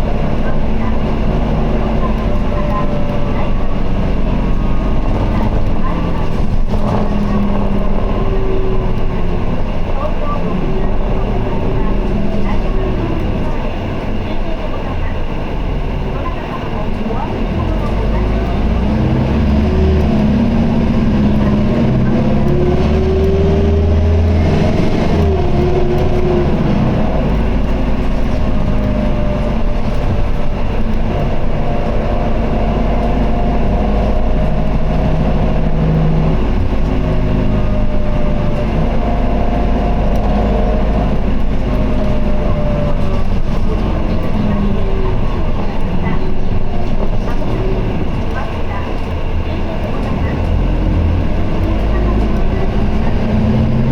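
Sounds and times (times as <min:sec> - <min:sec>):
bus diesel engine rumble: 0:00.0 - 0:53.9
drivetrain whine: 0:00.0 - 0:53.9.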